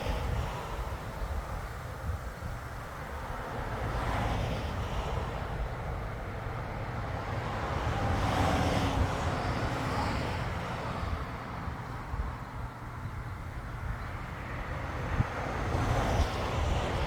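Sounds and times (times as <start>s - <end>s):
wind rustling tree leaves: 0.0s - 17.0s.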